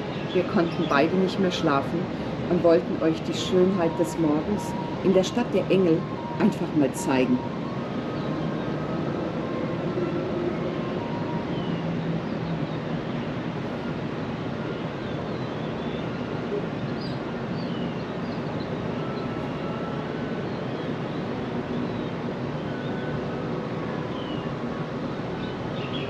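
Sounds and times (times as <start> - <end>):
distant city traffic hum: 0.0 - 26.0.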